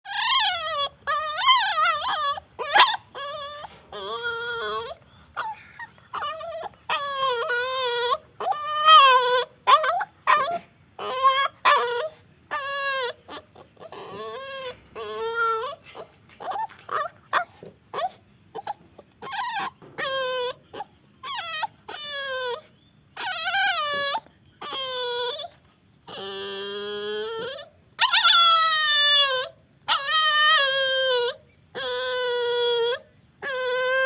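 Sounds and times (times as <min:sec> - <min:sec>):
puppy whimpering: 0:00.0 - 0:34.0.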